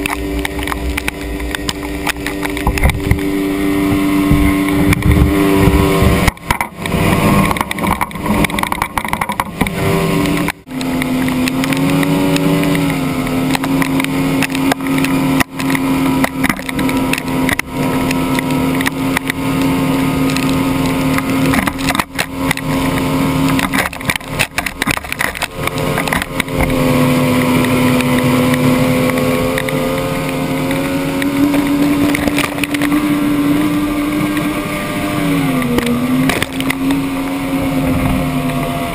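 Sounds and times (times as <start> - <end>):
outboard motor running hard: 0.0 - 38.9.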